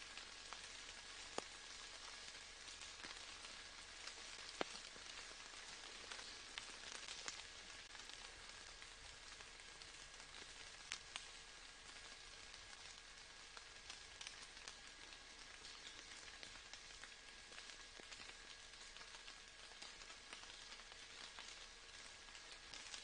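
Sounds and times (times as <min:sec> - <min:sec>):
soft steady rain: 0:00.0 - 0:23.0
raindrop ticks: 0:00.1 - 0:23.0.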